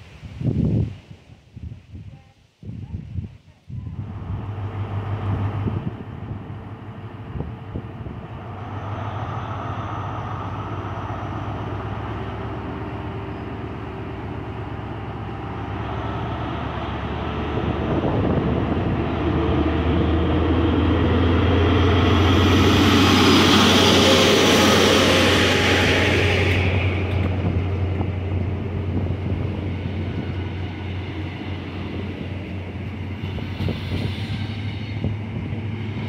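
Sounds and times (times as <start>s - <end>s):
diesel train engines droning: 3.9s - 36.0s.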